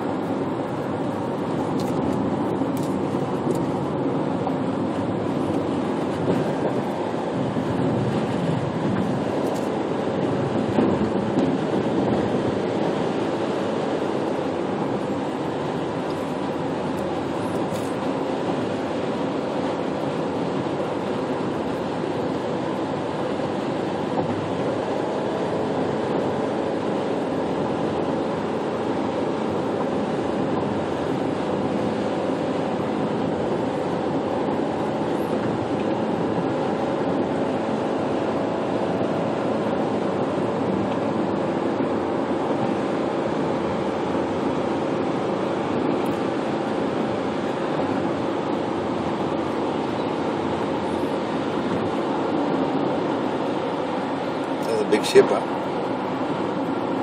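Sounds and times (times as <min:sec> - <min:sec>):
road and tyre noise in car: 0:00.0 - 0:57.0.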